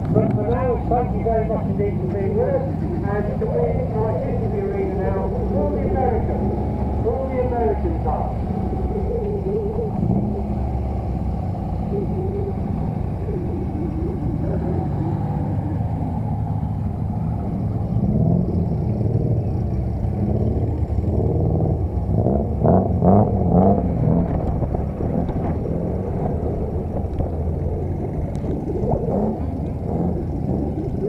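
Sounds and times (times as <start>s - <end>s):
car engines running: 0.0s - 31.0s
engine revving: 0.0s - 31.0s.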